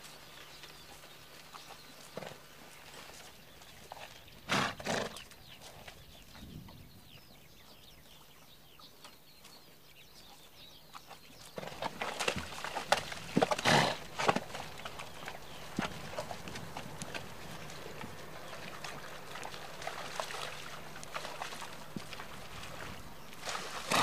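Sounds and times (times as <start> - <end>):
horses calling: 0.0 - 6.0, 10.4 - 24.0
hooves clopping and stamping: 0.0 - 24.0.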